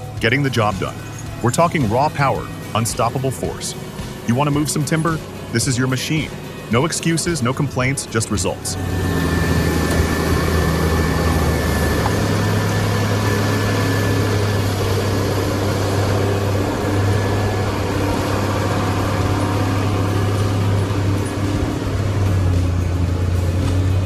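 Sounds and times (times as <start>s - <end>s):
diesel engine drone: 0.0s - 24.0s.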